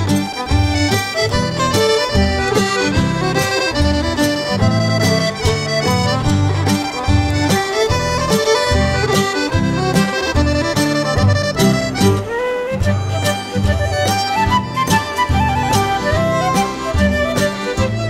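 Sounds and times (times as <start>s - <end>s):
accordion folk music: 0.0s - 18.0s.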